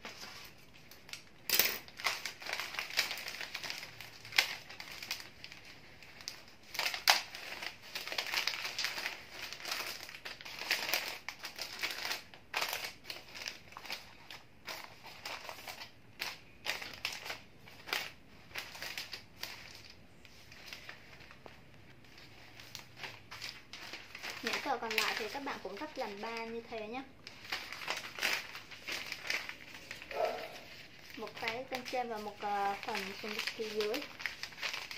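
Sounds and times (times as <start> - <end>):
wrapping paper crinkling: 0.0 - 34.9.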